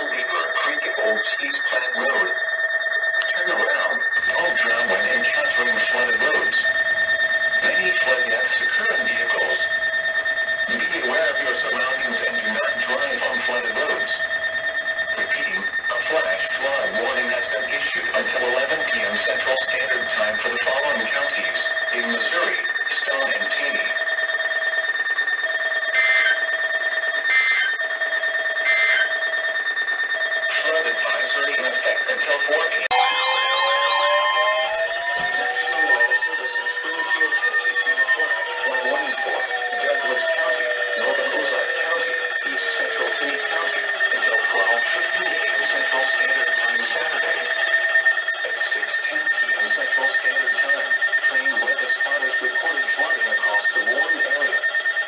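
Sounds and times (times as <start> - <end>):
steady electronic alarm tone: 0.0 - 55.0.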